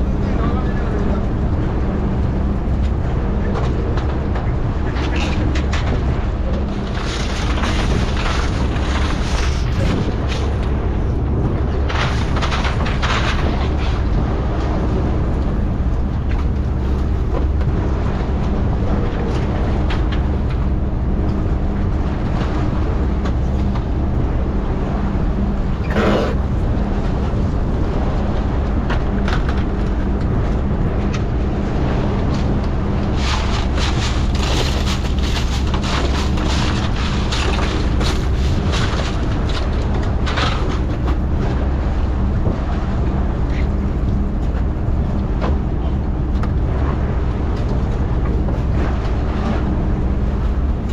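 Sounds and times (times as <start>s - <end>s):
boat engine humming: 0.0s - 50.9s
rushing wind: 0.0s - 50.9s
water noise: 0.0s - 50.9s.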